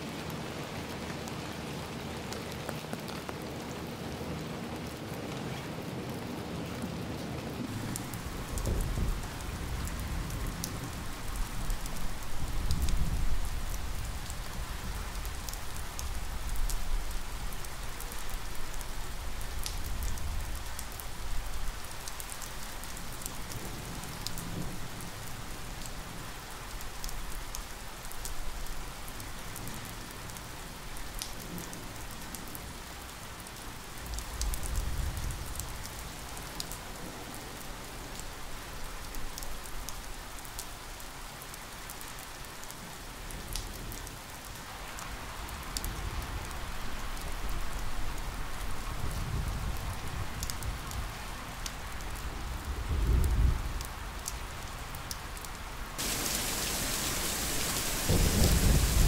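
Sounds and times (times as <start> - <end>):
raindrops ticking close by: 0.0 - 59.0
steady rain: 0.0 - 59.0.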